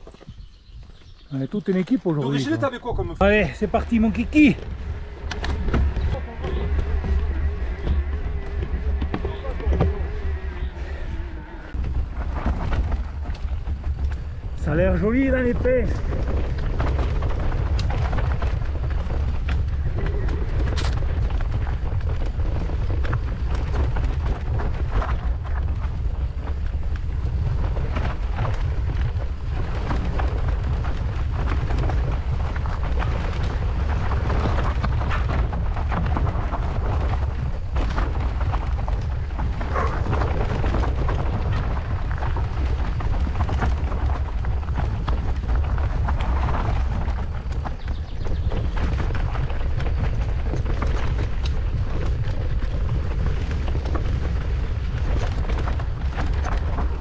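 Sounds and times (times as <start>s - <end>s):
bike rattling over rocks: 0.0s - 57.0s
wind rumble on microphone: 0.0s - 57.0s.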